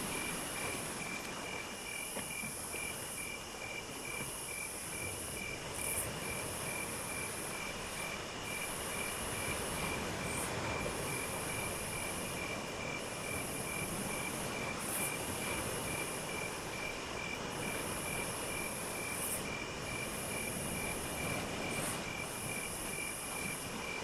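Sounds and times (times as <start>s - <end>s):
cricket chirping in pulses: 0.0s - 24.0s
high insect trill: 0.0s - 24.0s
steady hiss: 0.0s - 24.0s.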